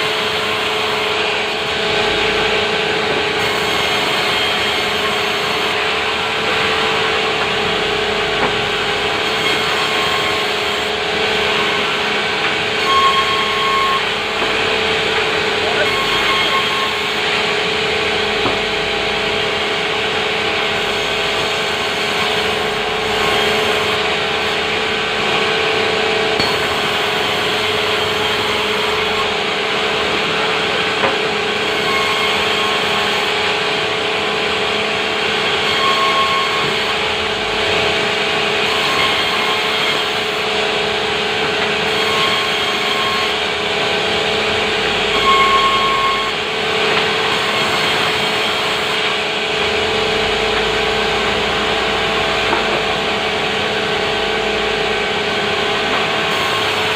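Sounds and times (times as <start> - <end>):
high saw squeals: 0.0 - 2.6, 3.2 - 56.9
sawmill saw cutting timber: 0.0 - 56.9.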